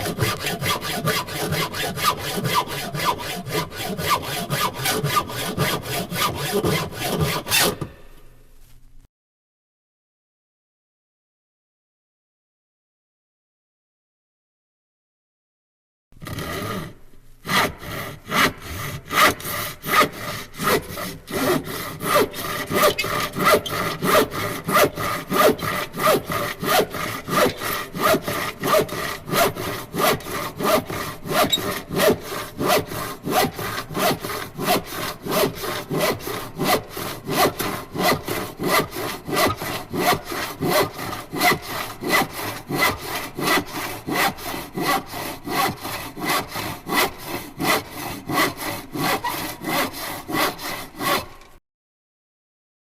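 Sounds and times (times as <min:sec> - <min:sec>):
rasping strokes: 0:00.0 - 0:07.9, 0:16.2 - 0:51.5.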